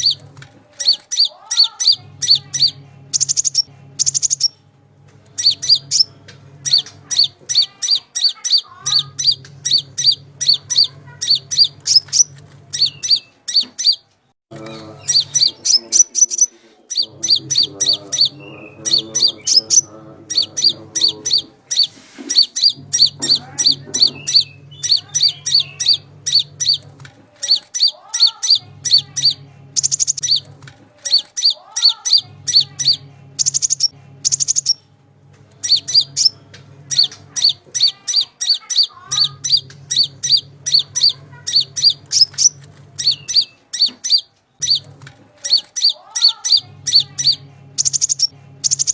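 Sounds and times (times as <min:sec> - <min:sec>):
bird chirping rapidly: 0:00.0 - 0:00.2, 0:00.8 - 0:04.6, 0:05.3 - 0:14.0, 0:14.6 - 0:34.8, 0:35.6 - 0:48.9
low hum: 0:01.7 - 0:13.8, 0:17.0 - 0:45.8.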